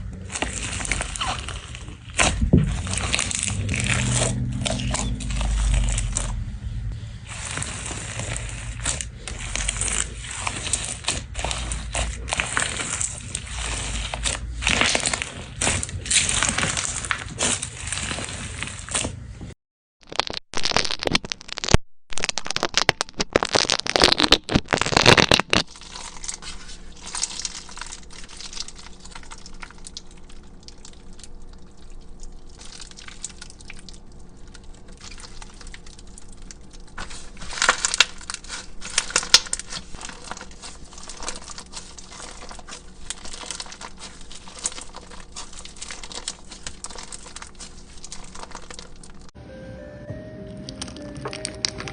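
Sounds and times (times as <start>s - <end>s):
crunchy slime squeezed by hand: 0.0s - 19.3s, 20.0s - 49.3s.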